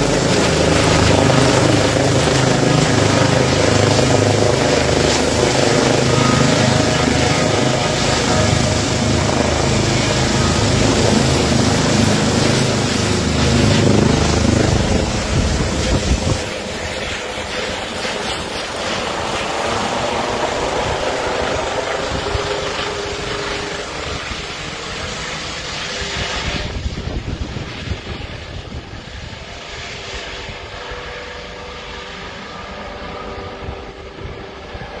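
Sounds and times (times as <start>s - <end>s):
helicopter flying overhead: 0.0s - 35.0s.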